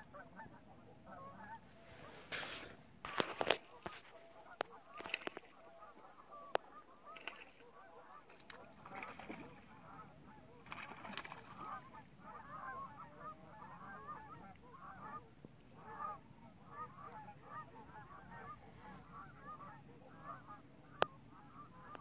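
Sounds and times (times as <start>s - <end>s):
cranes calling: 0.1s - 15.2s, 15.8s - 22.0s.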